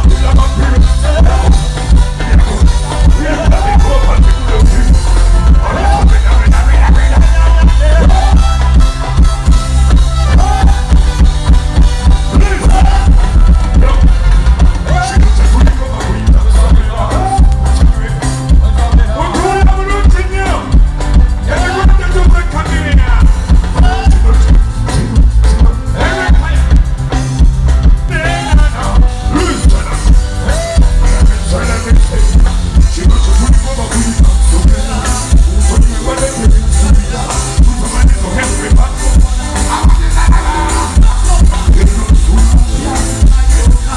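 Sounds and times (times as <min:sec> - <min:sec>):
loud music with drum beat: 0:00.0 - 0:43.9
person singing: 0:00.0 - 0:43.9.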